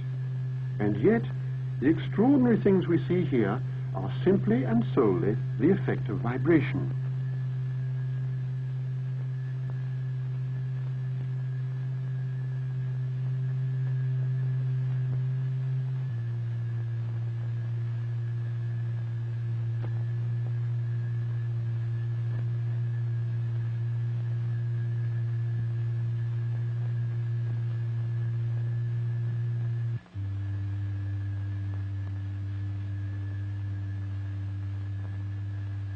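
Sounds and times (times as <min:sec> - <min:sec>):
steady low sine tone: 0:00.0 - 0:35.9.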